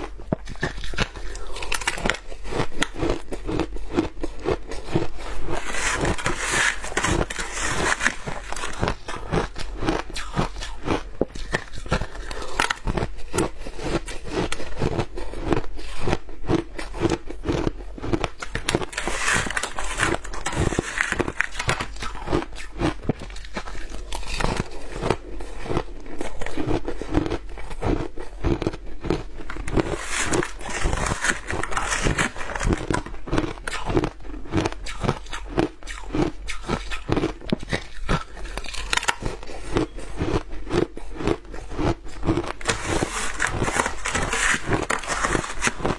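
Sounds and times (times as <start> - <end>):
ice being crunched in mouth: 0.4 - 45.9.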